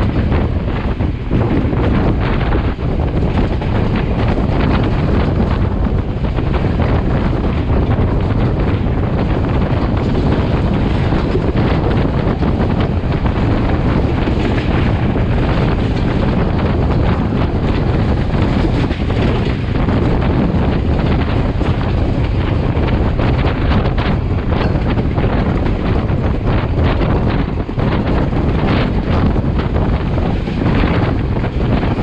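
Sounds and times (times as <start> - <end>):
train carriages rumbling on track: 0.0 - 32.0
wind buffeting microphone: 0.0 - 32.0.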